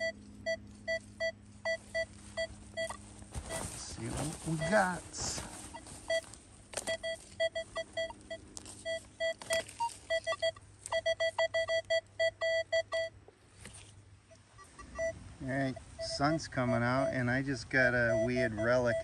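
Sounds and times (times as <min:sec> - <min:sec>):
metal detector beeps: 0:00.0 - 0:13.2, 0:14.3 - 0:19.0.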